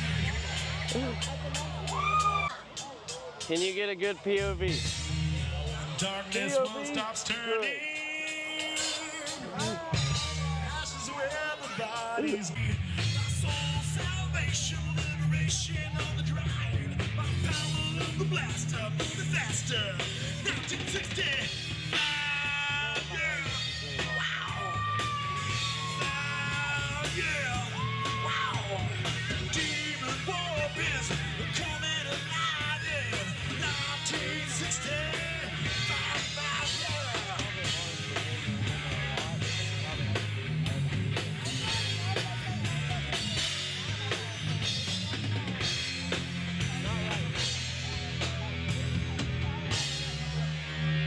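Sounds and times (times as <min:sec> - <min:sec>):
drum kit steady beat: 0:00.0 - 0:51.0
live rock band playing: 0:00.0 - 0:51.0.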